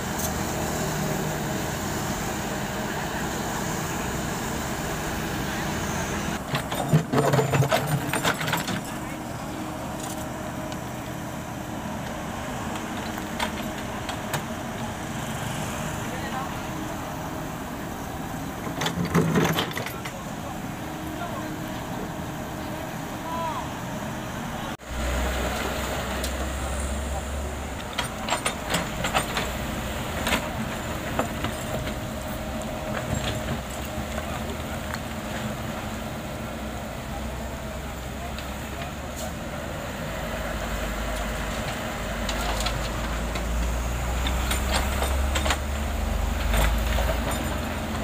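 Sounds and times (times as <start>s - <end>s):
excavator diesel engine under load: 0.0s - 48.0s.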